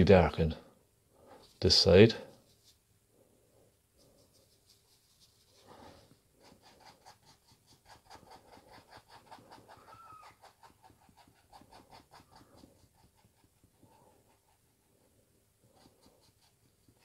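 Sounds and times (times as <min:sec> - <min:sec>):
paintbrush scratching on canvas: 0:01.2 - 0:02.9, 0:03.9 - 0:17.0.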